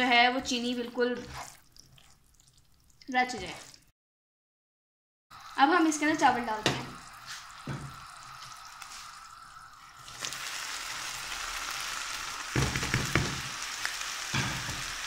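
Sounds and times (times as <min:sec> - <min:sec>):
syrup bubbling and sizzling: 0:00.0 - 0:03.9, 0:05.3 - 0:15.0.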